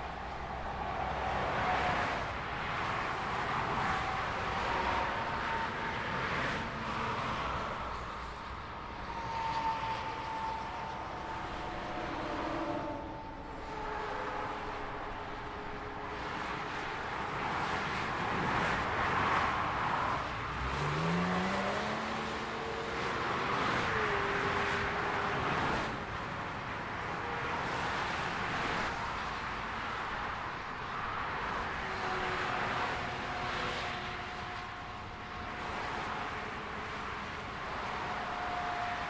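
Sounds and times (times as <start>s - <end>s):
motorway traffic passing: 0.0s - 39.0s.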